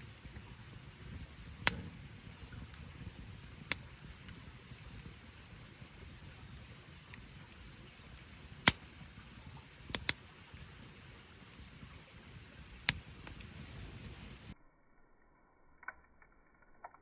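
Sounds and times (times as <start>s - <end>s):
campfire crackling and popping: 0.0s - 14.6s
low steady rumble: 0.0s - 15.8s.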